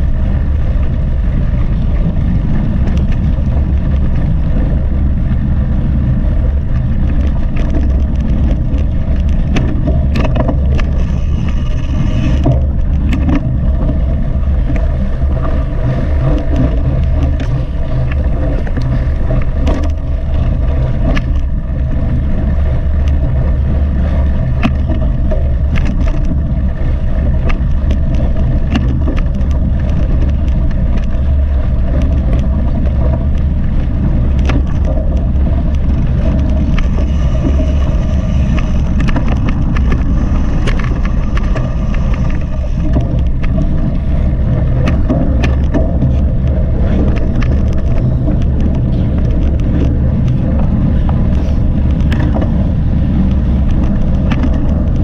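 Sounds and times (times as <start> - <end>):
bike rattling and clicking: 0.0 - 55.0
wind rumble on microphone: 0.0 - 55.0.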